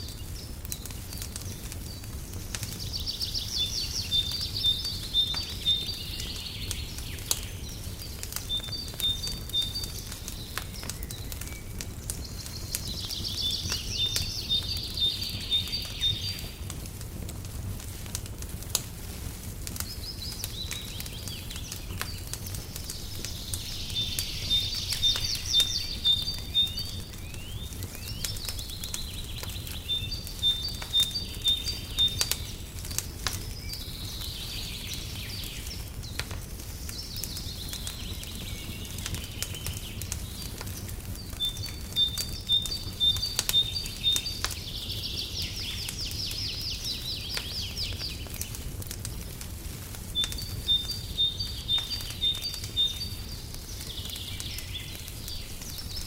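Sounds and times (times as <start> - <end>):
songbirds singing: 0.0 - 18.9, 19.5 - 56.0
wood fire crackling: 0.0 - 56.0.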